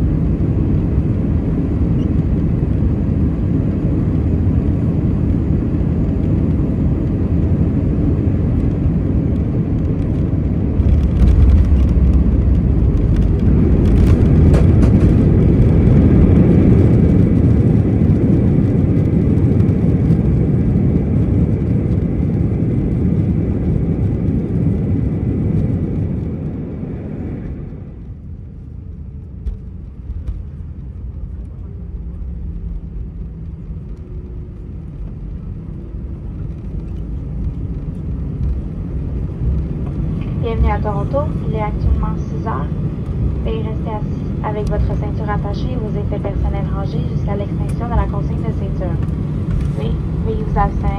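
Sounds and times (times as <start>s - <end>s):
cabin air and engine noise: 0.0s - 50.9s
jet engines whining: 0.0s - 50.9s
wheels rumbling on runway: 0.0s - 50.9s.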